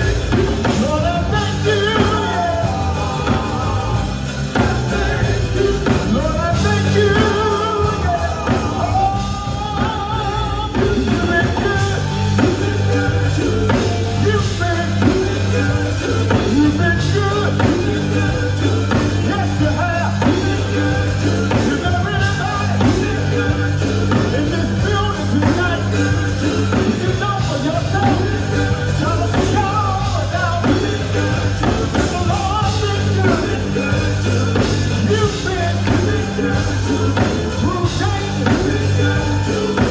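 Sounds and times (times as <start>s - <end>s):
live gospel band playing: 0.0s - 39.9s.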